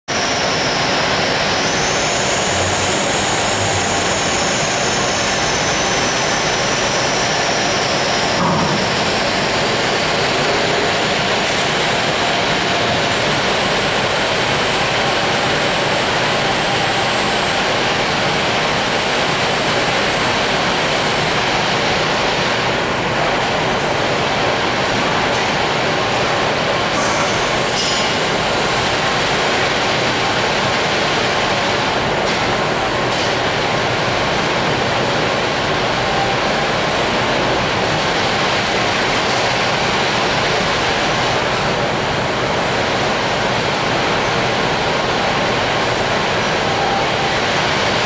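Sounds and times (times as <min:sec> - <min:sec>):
industrial machine noise: 0:00.1 - 0:48.0.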